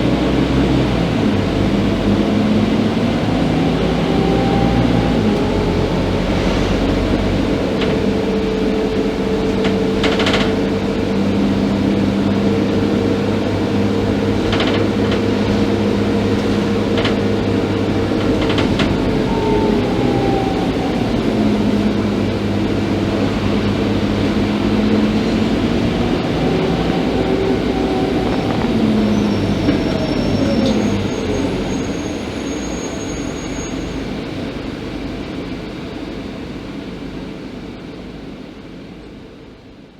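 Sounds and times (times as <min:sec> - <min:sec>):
bus engine whine: 0:00.0 - 0:39.9.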